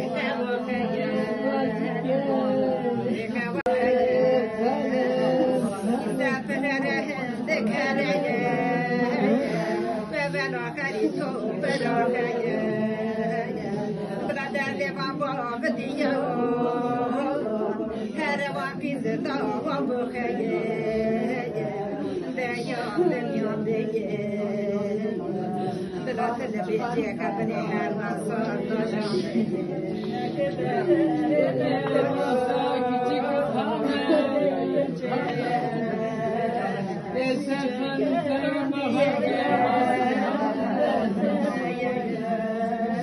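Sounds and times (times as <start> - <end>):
woman singing a lament: 0.0 - 43.0.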